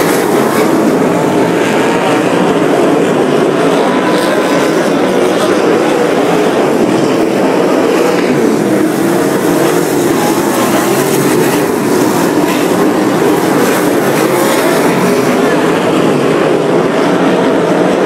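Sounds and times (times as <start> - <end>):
race cars roaring past: 0.0 - 18.0.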